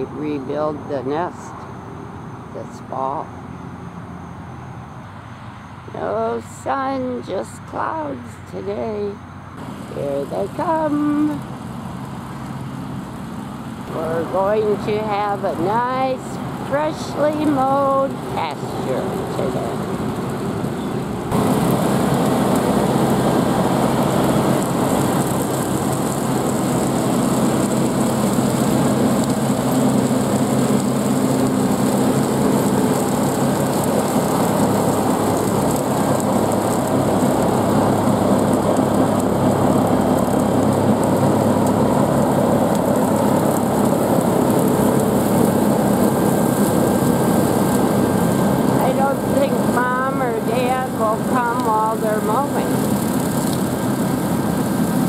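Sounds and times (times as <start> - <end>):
tractor diesel engine running: 5.9 - 55.0.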